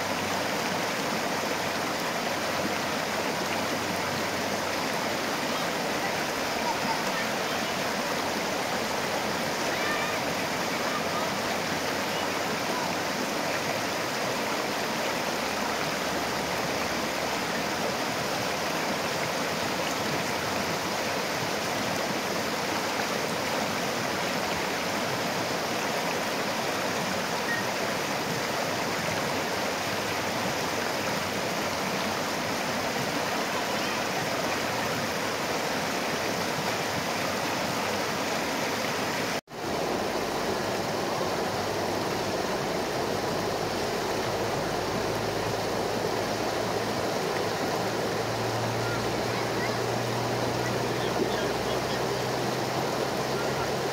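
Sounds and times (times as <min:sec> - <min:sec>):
river water rushing over stones: 0:00.0 - 0:53.9.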